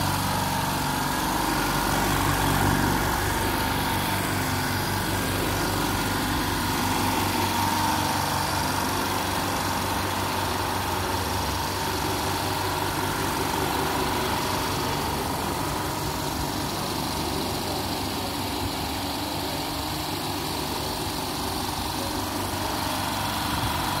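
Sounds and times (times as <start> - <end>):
air compressor humming: 0.0 - 24.0.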